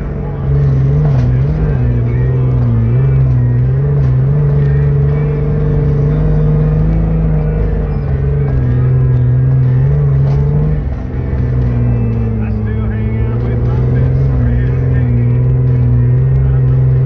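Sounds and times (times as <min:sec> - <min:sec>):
engine running at high revs: 0:00.0 - 0:17.0.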